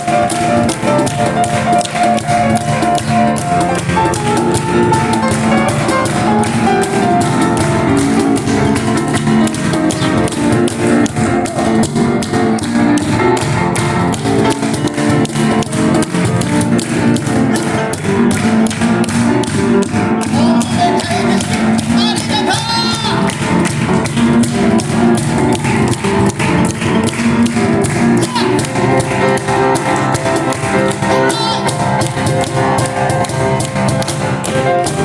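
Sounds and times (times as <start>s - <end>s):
busy piano line: 0.0s - 35.0s
driving cajon strokes: 0.0s - 35.0s.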